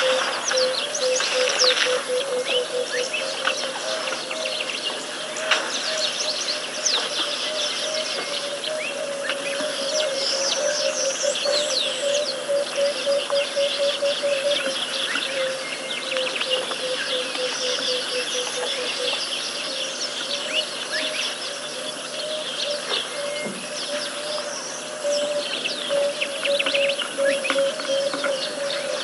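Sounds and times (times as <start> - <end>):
birds chirping and whistling: 0.0 - 29.0
low pulsing bird call: 0.0 - 29.0.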